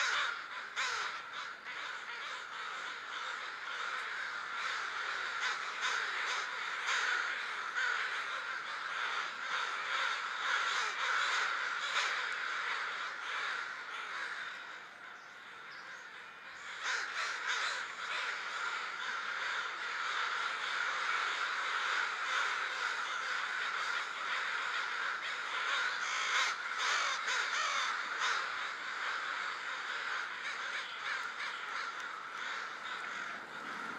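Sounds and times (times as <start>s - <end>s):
flock of crows cawing: 0.0s - 33.9s.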